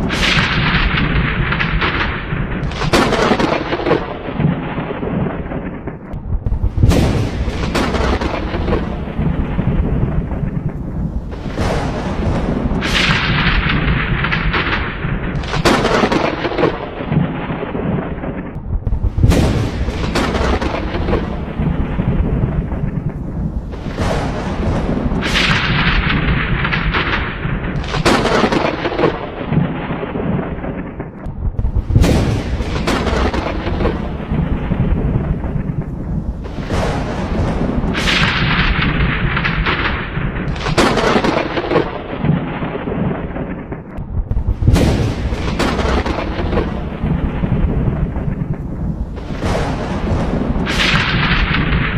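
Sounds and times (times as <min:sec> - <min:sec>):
thunderclaps and rumble: 0:00.0 - 0:51.9.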